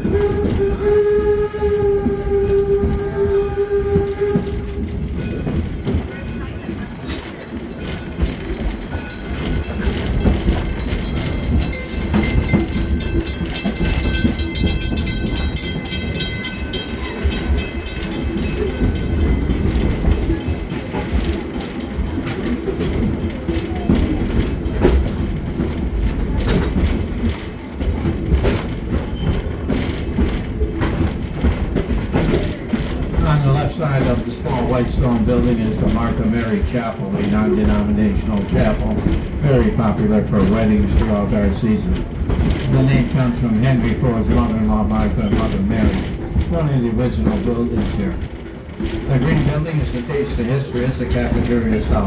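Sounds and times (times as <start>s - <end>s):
train cars rumbling on track: 0.0s - 52.0s.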